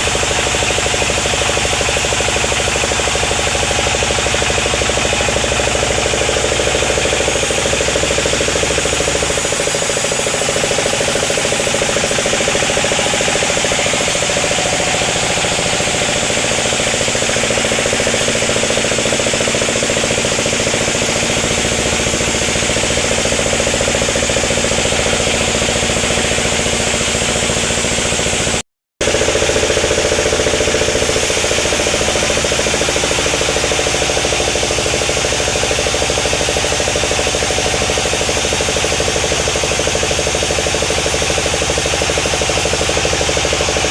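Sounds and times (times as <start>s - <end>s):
sawmill saw cutting timber: 0.0s - 43.9s.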